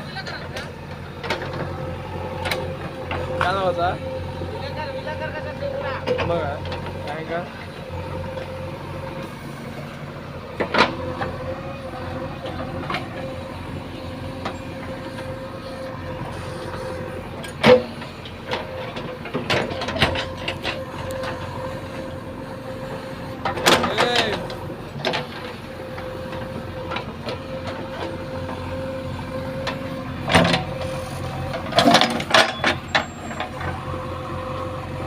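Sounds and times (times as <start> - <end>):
diesel engine running with whine: 0.0 - 35.0.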